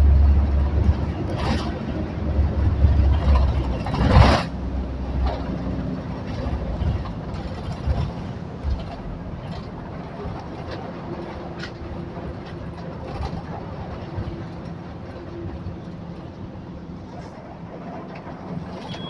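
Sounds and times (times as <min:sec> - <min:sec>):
vehicle rumble from inside: 0:00.0 - 0:19.0.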